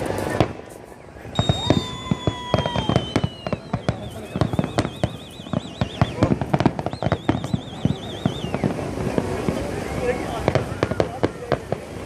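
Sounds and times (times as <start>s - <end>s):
firework whistles sliding down: 0.0s - 11.7s
firework bangs: 0.0s - 12.0s
warbling firework whistle: 0.0s - 12.0s.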